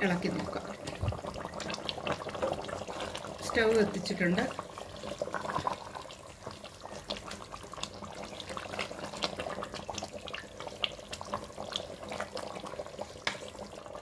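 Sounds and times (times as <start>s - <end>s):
curry bubbling and popping: 0.0s - 14.0s.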